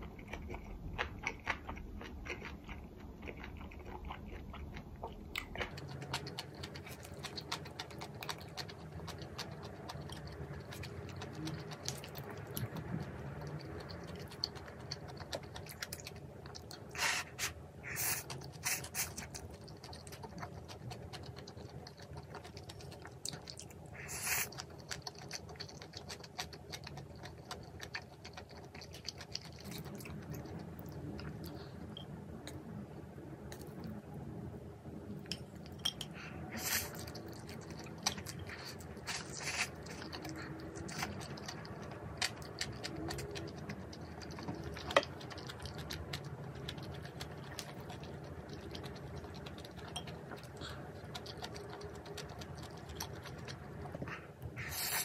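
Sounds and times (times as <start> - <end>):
person chewing: 0.0 - 32.7, 35.2 - 55.0.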